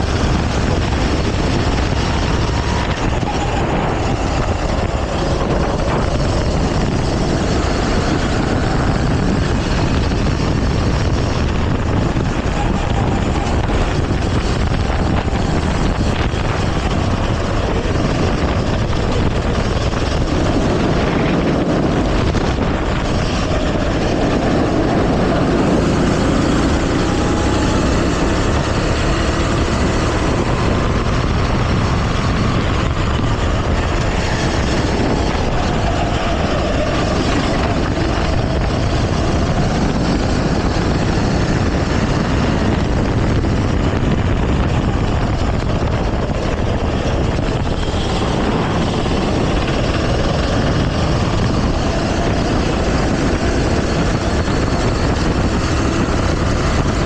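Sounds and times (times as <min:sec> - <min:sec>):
go-kart engine running: 0:00.0 - 0:57.0
wind noise: 0:00.0 - 0:57.0.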